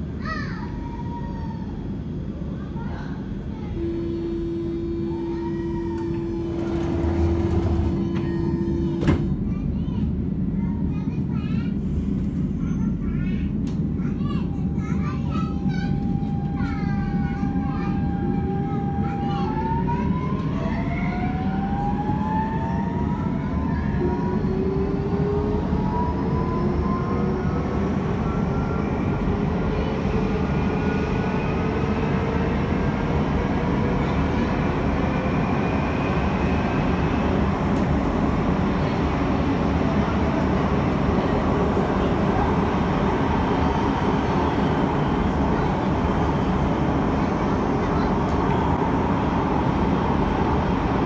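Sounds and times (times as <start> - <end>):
wheels rumbling on rails: 3.8 - 51.0.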